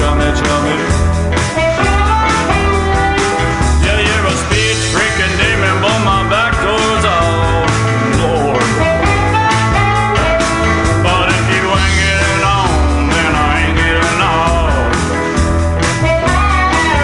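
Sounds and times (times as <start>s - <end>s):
rock song with vocals: 0.0s - 17.0s.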